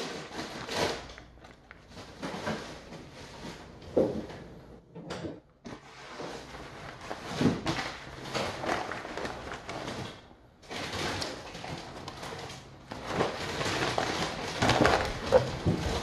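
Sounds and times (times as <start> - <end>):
butcher paper rustling and crinkling: 0.0 - 3.8, 5.8 - 16.0.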